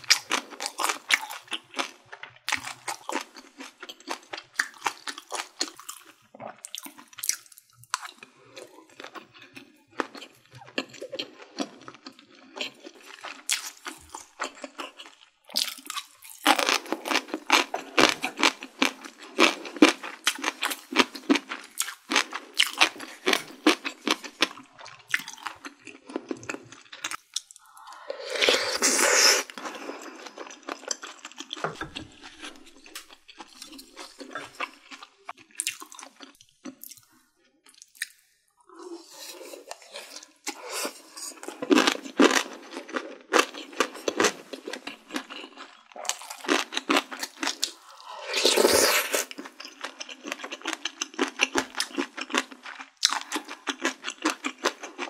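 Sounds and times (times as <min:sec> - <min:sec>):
wet chewing mouth sounds: 0:00.0 - 0:37.1, 0:39.0 - 0:55.0.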